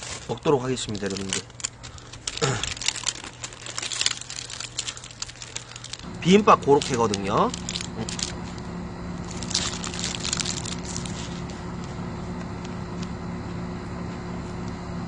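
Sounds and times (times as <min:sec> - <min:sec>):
crunchy food chewing: 0:00.0 - 0:13.1
steady low hum: 0:00.0 - 0:15.0.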